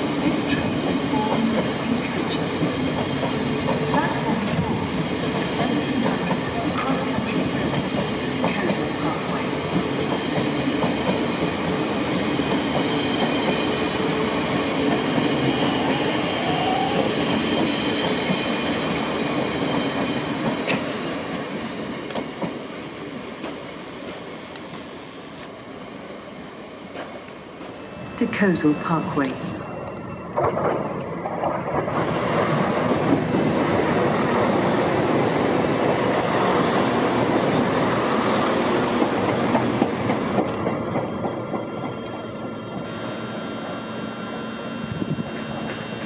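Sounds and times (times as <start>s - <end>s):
train electric hum: 0.0s - 46.0s.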